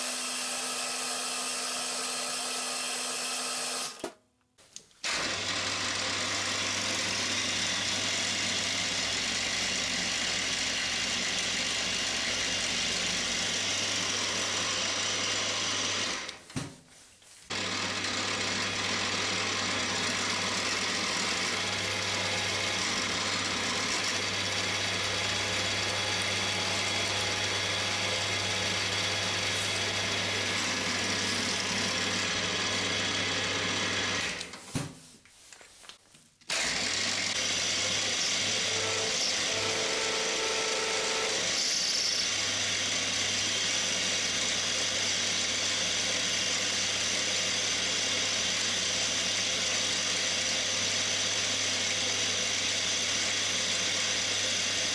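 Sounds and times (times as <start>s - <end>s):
drill motor hum and whine: 0.0s - 4.1s, 5.1s - 16.3s, 17.5s - 34.4s, 36.5s - 54.9s.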